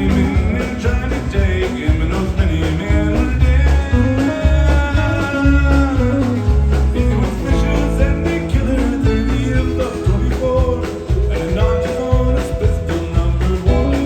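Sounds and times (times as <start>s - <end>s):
country band playing: 0.0s - 14.0s.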